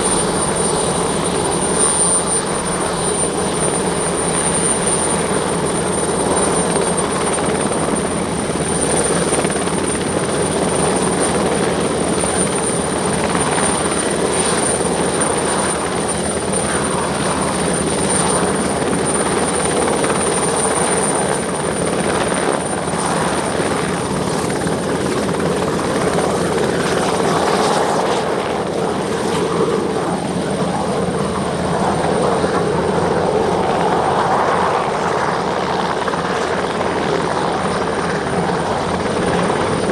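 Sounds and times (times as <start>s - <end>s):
helicopter rotor noise: 0.0s - 39.9s
high turbine whine: 0.0s - 39.9s.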